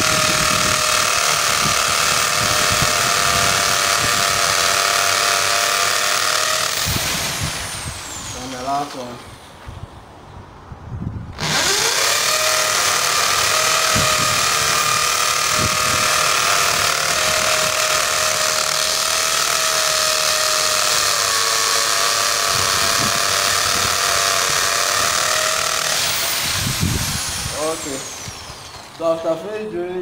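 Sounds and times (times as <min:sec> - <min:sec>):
electric drill boring into concrete: 0:00.0 - 0:09.4, 0:11.4 - 0:30.0.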